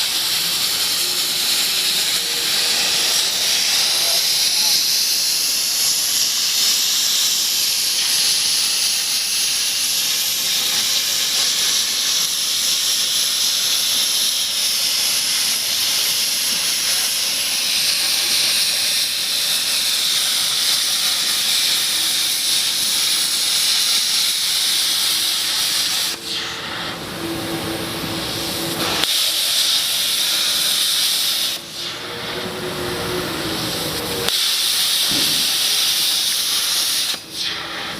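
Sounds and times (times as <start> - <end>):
plasma torch cutting hiss: 0.0 - 37.9.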